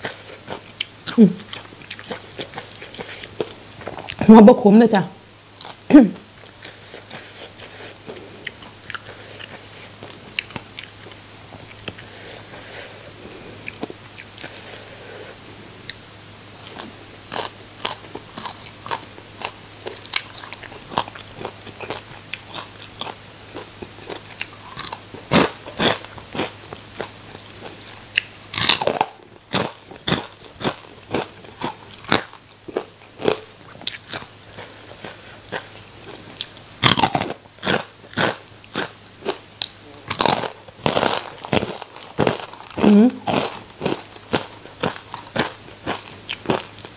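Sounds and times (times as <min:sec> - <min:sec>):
crunchy fried fish chewing: 0:00.0 - 0:04.2, 0:05.6 - 0:15.0, 0:16.6 - 0:46.9.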